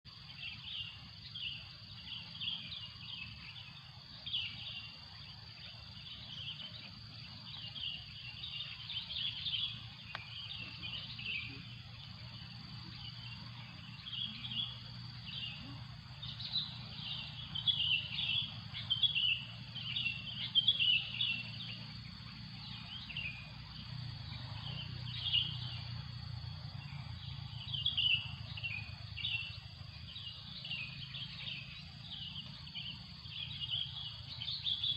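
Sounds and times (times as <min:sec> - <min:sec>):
high insect drone: 0:00.1 - 0:34.9.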